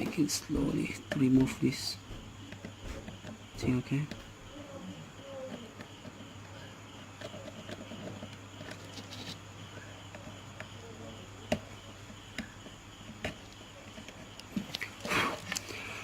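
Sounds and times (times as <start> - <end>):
insect-like chirring: 0.0 - 16.0.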